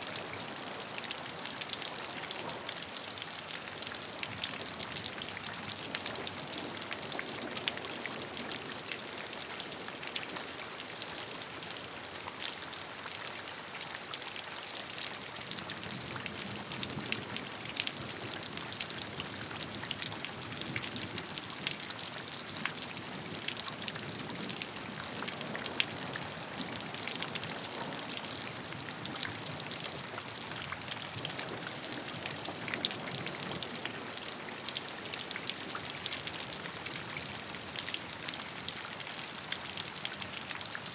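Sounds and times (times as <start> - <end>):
steady rain with drop hits: 0.0 - 40.9.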